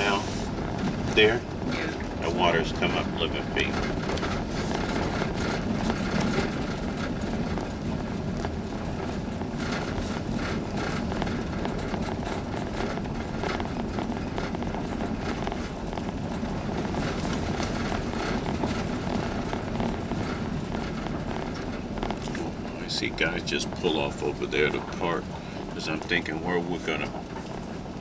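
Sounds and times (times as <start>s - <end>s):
light clicks and rattles: 0.0s - 27.9s
engine and tyres rumbling: 0.0s - 28.0s.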